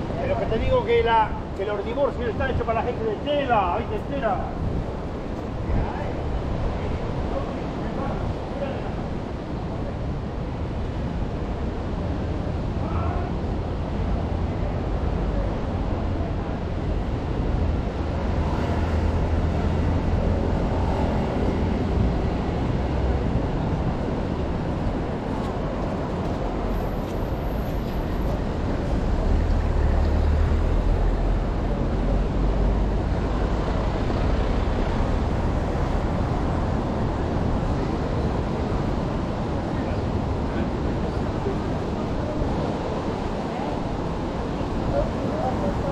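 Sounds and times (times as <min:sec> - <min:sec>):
outdoor rush: 0:00.0 - 0:45.9.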